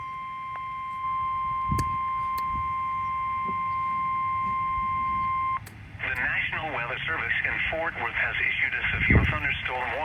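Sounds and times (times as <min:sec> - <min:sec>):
steady high warning tone: 0:00.0 - 0:10.0.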